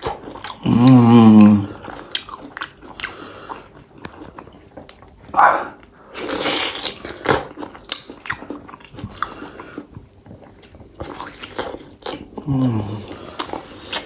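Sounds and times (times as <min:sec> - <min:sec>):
chewing and lip smacking: 0:00.0 - 0:14.0.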